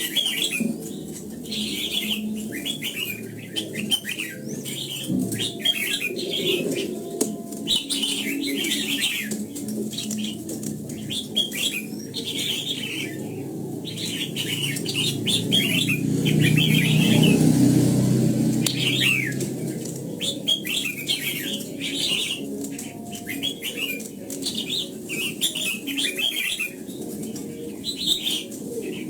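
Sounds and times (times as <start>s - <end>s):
bulbuls singing: 0.0s - 29.0s.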